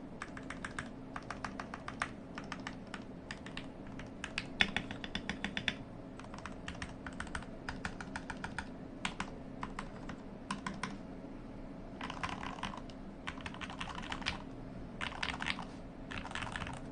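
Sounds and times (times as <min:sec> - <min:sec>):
mechanical keyboard typing: 0:00.2 - 0:11.0, 0:12.0 - 0:14.4, 0:15.0 - 0:16.9.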